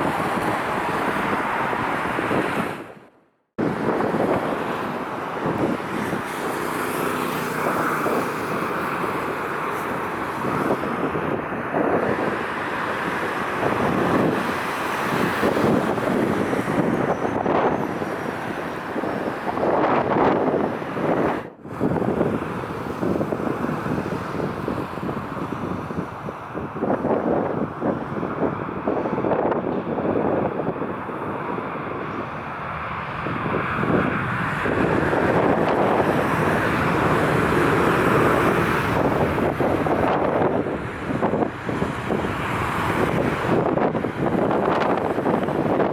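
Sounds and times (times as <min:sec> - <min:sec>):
gusting wind buffeting microphone: 0:00.0 - 0:45.9.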